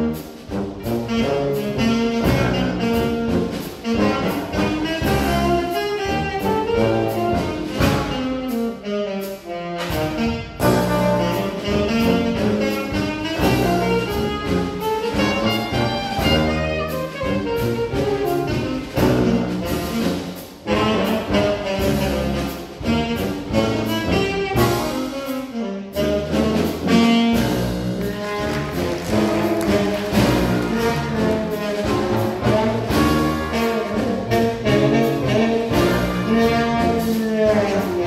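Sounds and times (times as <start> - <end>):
jazz band playing: 0.0 - 38.0.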